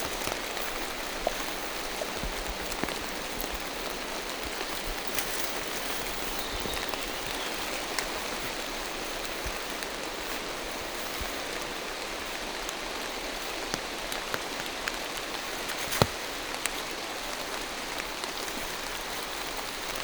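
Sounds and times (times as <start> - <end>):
rain falling through trees: 0.0 - 20.0
sharp raindrop ticks: 0.0 - 20.0.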